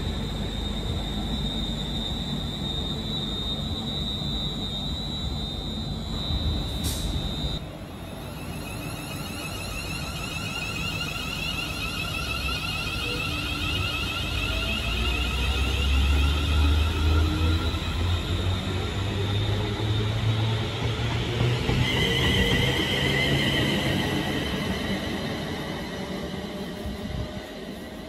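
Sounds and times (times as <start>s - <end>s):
sliding whining tones: 0.0s - 28.0s
train rail running noise: 0.0s - 28.0s.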